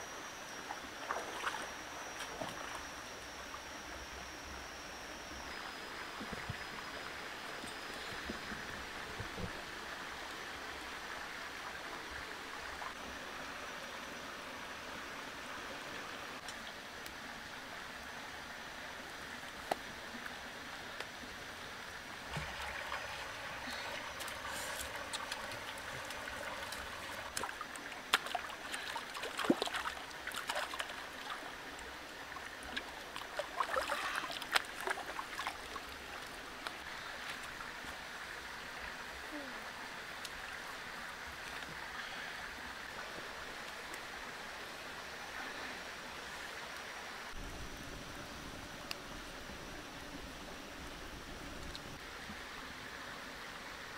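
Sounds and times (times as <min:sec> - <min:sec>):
rocky stream running: 0:00.0 - 0:47.4.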